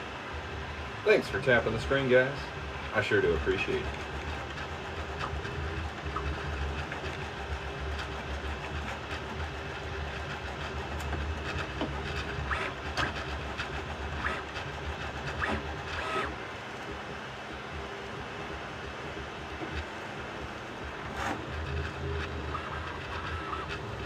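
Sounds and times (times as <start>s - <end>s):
printer motors and fan humming: 0.0s - 24.0s.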